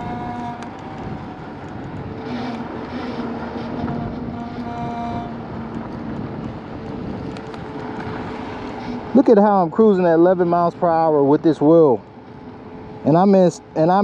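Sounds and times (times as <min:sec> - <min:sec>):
electric scooter motors whining: 0:00.0 - 0:14.0
tyres rumbling on dirt path: 0:00.0 - 0:14.0.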